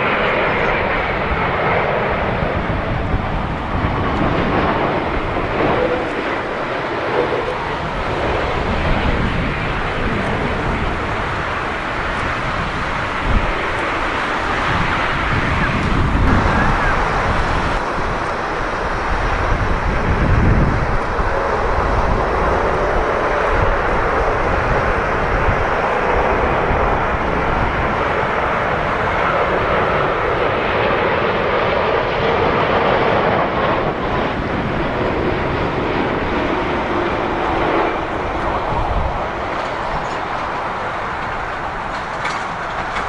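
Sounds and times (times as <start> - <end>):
jet engines roaring with whine: 0.0 - 43.0
wind buffeting microphone: 0.0 - 43.0.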